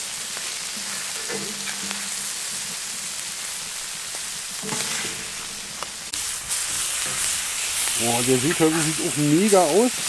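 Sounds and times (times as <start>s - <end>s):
seafood sizzling in butter: 0.0s - 10.0s.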